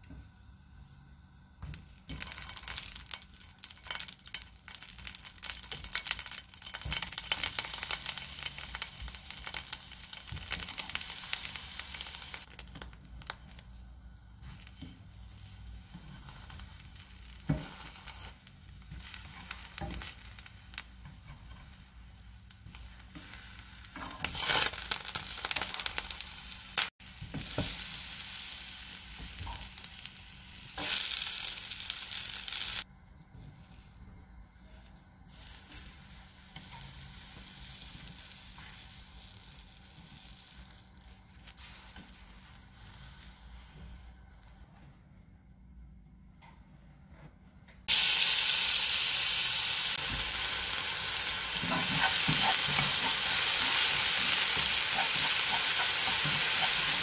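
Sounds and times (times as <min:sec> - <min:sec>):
vegetable slices sizzling in oil: 0:01.7 - 0:13.6, 0:14.4 - 0:32.8, 0:34.6 - 0:43.9, 0:47.9 - 0:57.0.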